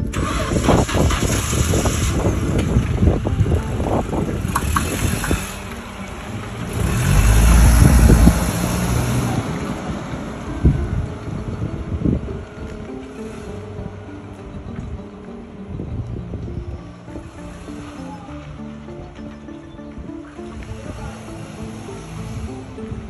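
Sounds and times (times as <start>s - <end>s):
wind buffeting microphone: 0.0s - 23.0s
car passing slowly: 1.2s - 23.0s.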